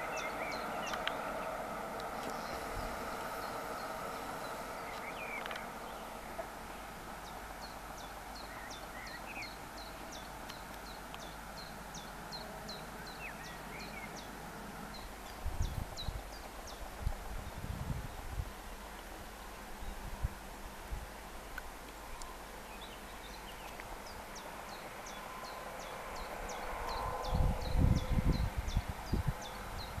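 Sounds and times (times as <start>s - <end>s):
small bird singing: 0.0s - 17.6s, 22.1s - 30.0s
faint steady hum: 0.0s - 30.0s.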